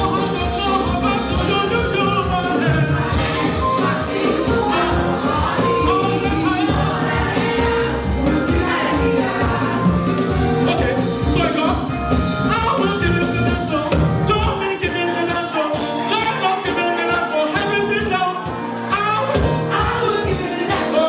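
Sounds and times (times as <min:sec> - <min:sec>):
shaker percussion: 0:00.0 - 0:13.8, 0:14.4 - 0:21.0
band with steady beat: 0:00.0 - 0:21.0
group singing gospel music: 0:00.0 - 0:21.0.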